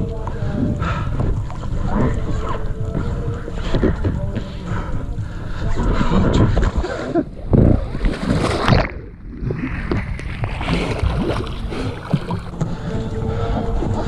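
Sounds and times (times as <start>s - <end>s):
water splashing and sloshing: 0.0s - 14.0s
wind on microphone: 0.0s - 14.0s.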